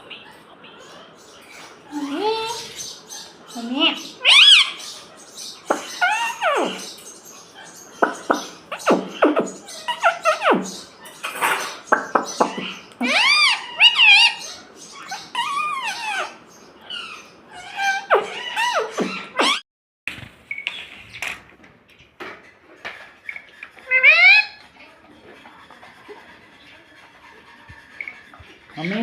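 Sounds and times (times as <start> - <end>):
parrot chirping and squawking: 0.0 - 19.6, 22.4 - 29.0.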